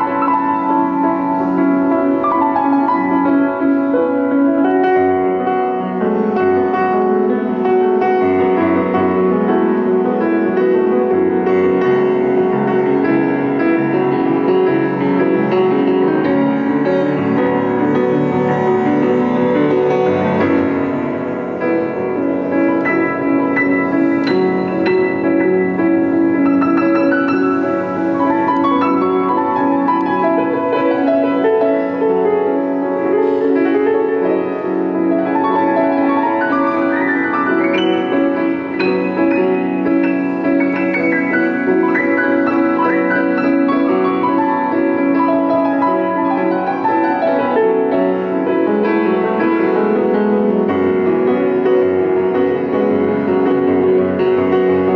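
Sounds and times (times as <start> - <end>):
solo grand piano piece: 0.0 - 54.9.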